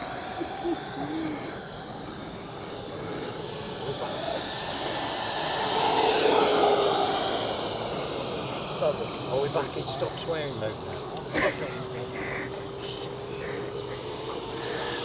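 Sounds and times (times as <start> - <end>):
model jet fan whine: 0.0 - 15.0.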